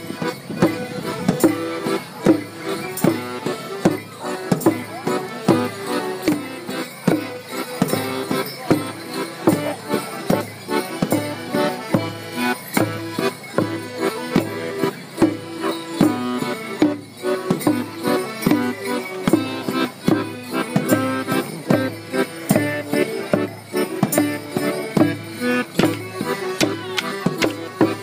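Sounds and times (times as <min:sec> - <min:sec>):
folk tune played live: 0:00.0 - 0:28.0.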